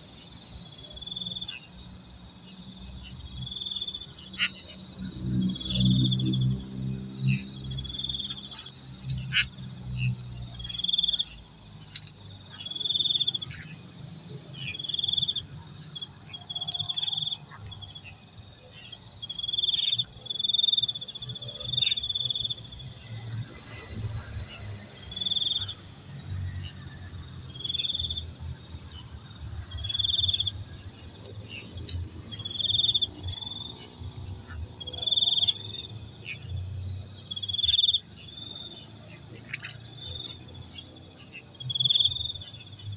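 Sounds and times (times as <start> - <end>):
crickets droning: 0.0 - 42.9
insect chirp: 0.0 - 42.9.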